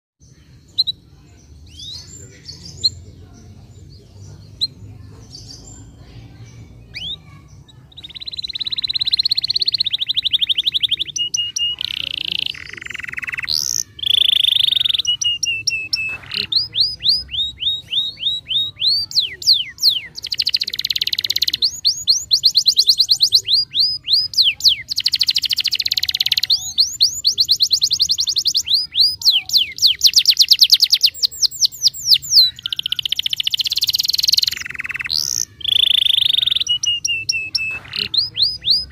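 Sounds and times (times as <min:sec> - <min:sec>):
canary singing trills: 0:00.2 - 0:38.9.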